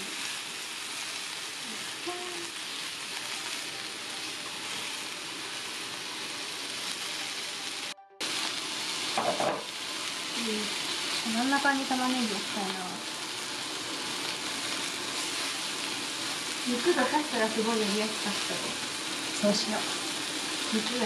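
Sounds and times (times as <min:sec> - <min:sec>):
food sizzling on hot plate: 0:00.0 - 0:21.0.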